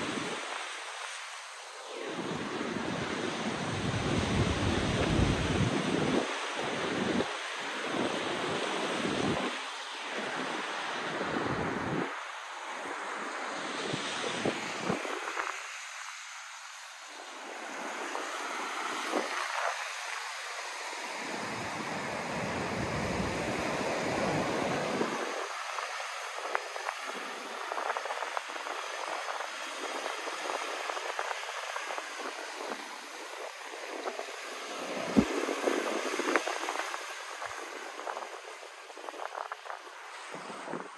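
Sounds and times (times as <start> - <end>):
wind on microphone: 0.0 - 12.2, 13.6 - 16.2, 17.6 - 40.9
surf washing over rocks: 0.0 - 40.9.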